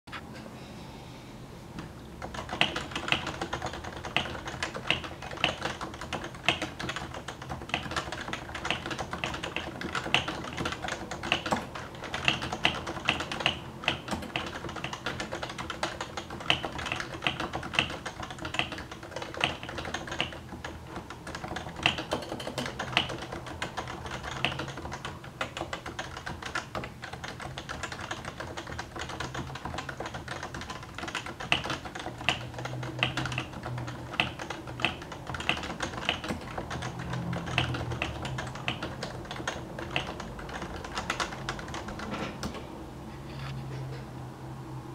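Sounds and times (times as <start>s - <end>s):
keyboard typing: 2.2s - 42.7s.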